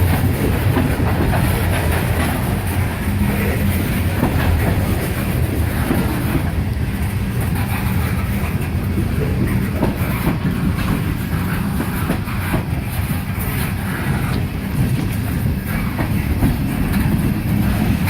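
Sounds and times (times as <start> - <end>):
freight train rumbling: 0.0 - 18.0
wheels clacking over rail joints: 0.0 - 18.0.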